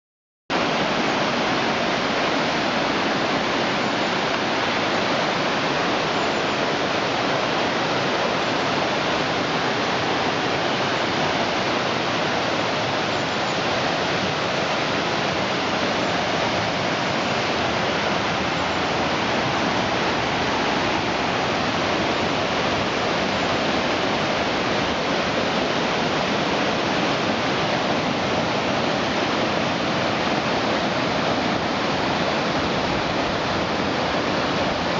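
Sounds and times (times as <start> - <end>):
waterfall and river rushing: 0.5 - 34.9.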